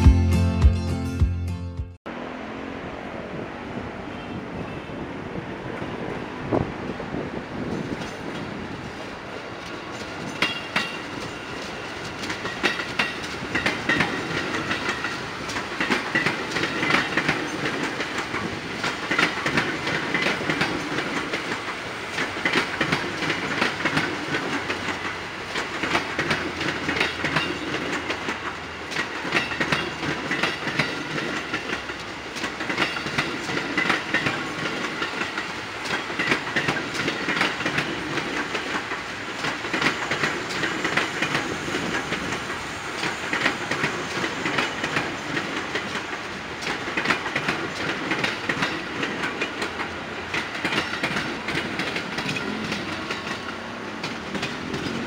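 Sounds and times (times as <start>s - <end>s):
train rumbling: 2.1s - 55.0s
wheels clacking over rail joints: 7.6s - 55.0s.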